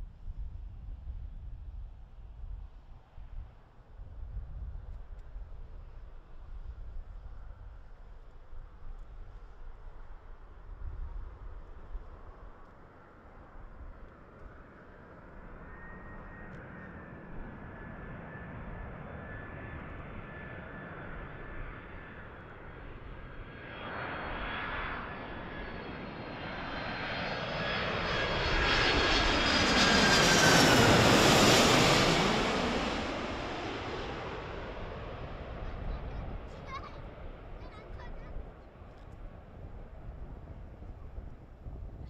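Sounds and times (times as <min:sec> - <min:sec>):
jet engines whining and rumbling: 0:02.1 - 0:42.0.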